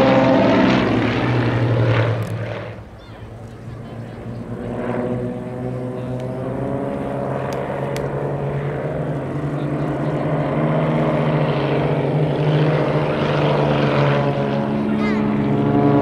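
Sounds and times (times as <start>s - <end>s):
propeller planes droning: 0.0s - 16.0s.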